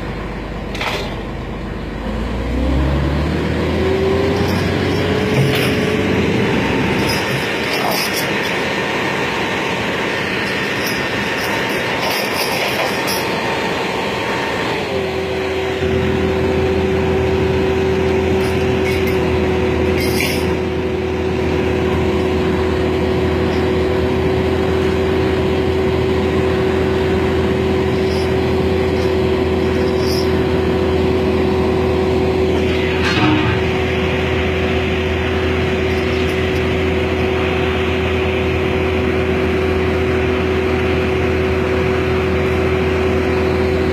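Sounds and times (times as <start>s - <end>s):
deep steady drone: 0.0s - 43.9s
diesel engine whining under load: 0.0s - 43.9s.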